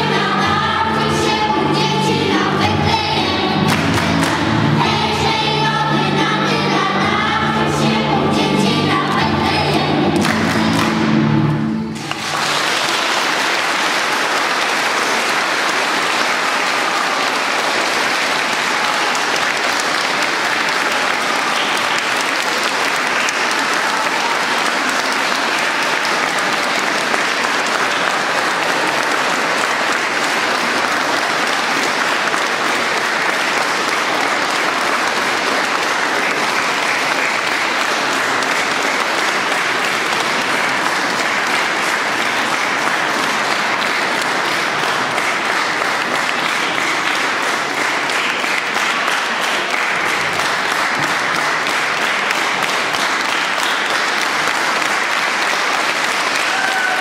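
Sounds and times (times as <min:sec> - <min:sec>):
audience applauding: 0:03.6 - 0:05.0, 0:09.9 - 0:57.0.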